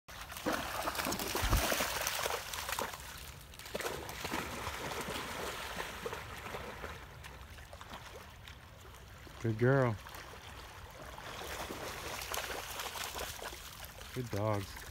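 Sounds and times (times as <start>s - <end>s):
dogs splashing in water: 0.1s - 14.9s.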